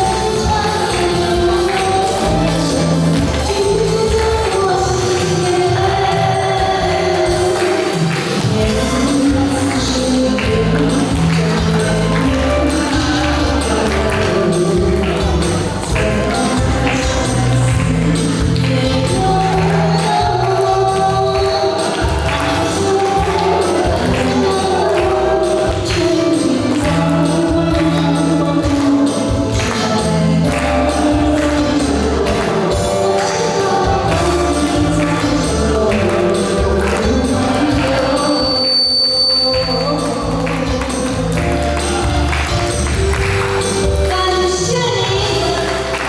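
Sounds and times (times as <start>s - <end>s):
song over beat and bass: 0.0s - 46.0s.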